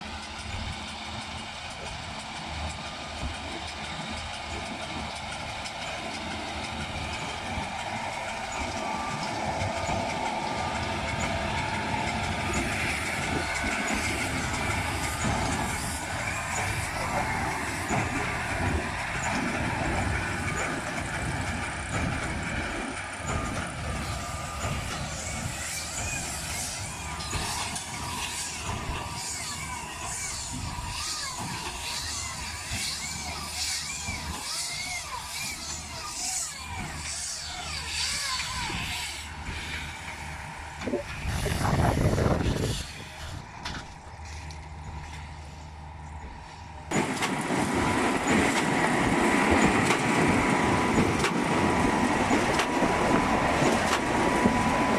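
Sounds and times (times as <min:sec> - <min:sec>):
baler machinery running: 0:00.0 - 0:54.9.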